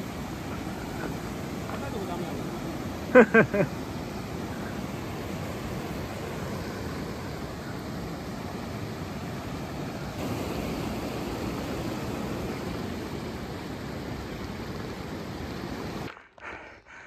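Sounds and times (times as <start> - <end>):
water flowing over rocks: 0.0 - 16.5.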